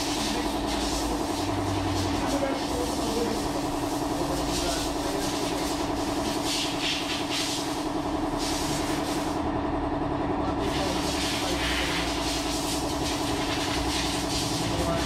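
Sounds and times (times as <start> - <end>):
machine running steadily: 0.0 - 15.0.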